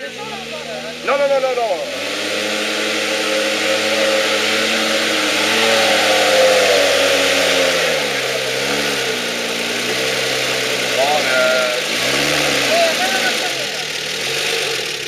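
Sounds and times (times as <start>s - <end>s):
truck engine pulling at low revs: 0.0s - 15.0s.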